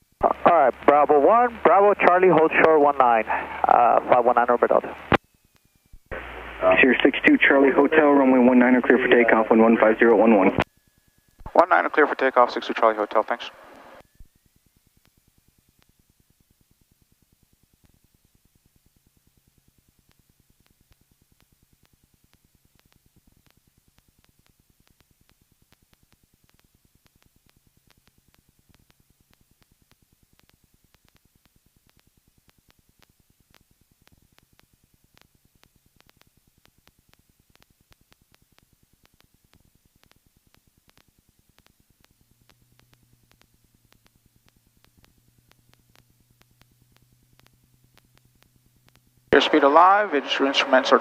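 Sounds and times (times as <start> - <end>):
low steady hum: 0.0 - 51.0
faint rapid ticking: 0.1 - 50.8.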